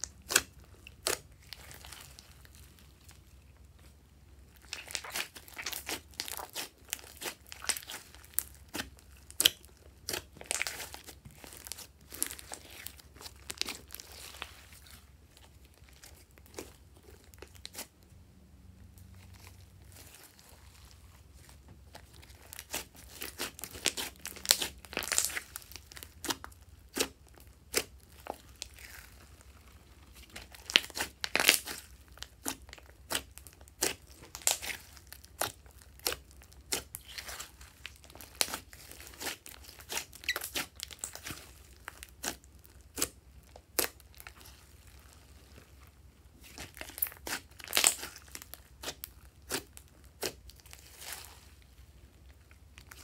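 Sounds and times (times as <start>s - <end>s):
slime squishing with sticky clicks: 0.0s - 18.2s, 18.9s - 53.0s.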